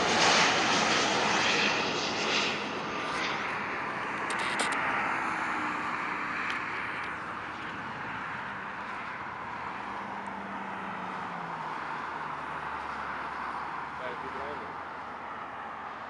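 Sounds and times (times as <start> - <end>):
jet engine rushing: 0.0 - 14.6.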